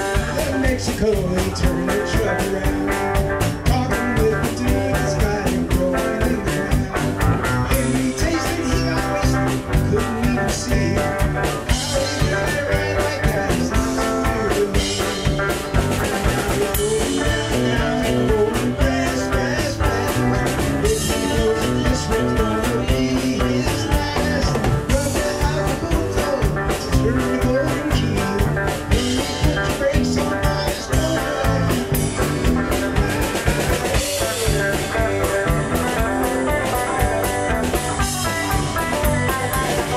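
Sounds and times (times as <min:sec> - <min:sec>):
drum kit beat: 0:00.0 - 0:39.9
electric guitars: 0:00.0 - 0:39.9
live band jamming: 0:00.0 - 0:39.9.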